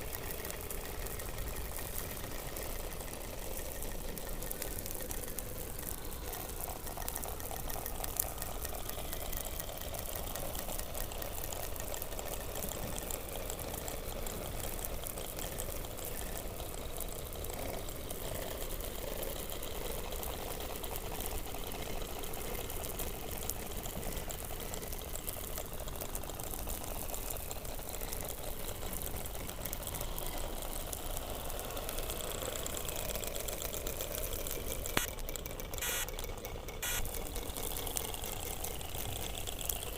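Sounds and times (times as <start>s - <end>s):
underwater crackle and hiss: 0.0s - 39.9s.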